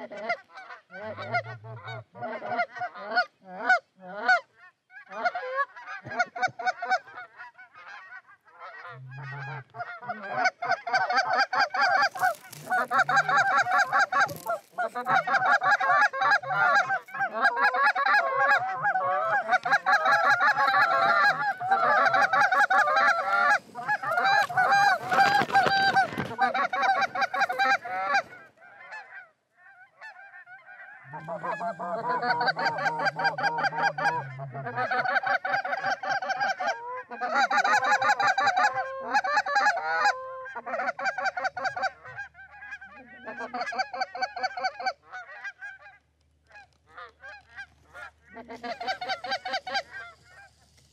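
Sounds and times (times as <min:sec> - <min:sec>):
goose calls honking: 0:00.0 - 0:50.6.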